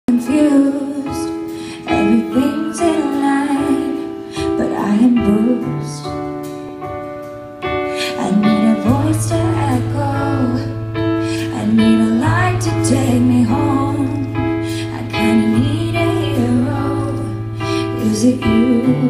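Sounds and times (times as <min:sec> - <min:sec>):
woman singing wordless vocals: 0:00.0 - 0:06.3, 0:08.0 - 0:19.0
held keyboard chords: 0:00.1 - 0:19.0.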